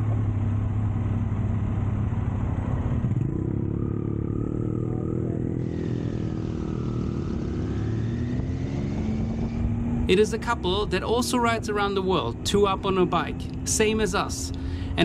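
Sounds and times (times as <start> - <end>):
higher engine note: 0.0 - 15.0
motorcycle engine running: 0.0 - 15.0
road noise: 0.0 - 15.0.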